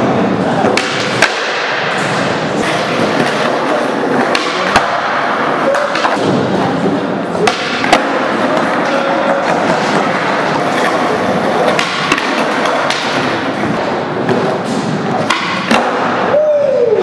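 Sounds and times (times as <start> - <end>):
skateboard wheels rolling on concrete: 0.0 - 17.0
skateboard clacks: 0.6 - 16.3.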